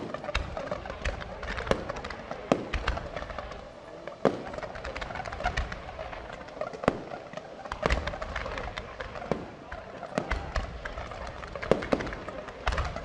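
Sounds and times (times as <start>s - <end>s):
fireworks bangs: 0.0s - 13.0s
fireworks crackling and popping: 0.0s - 13.0s.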